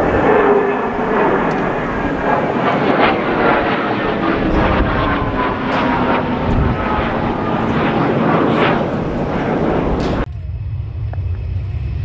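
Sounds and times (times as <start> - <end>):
fighter jet engine noise: 0.0 - 12.0.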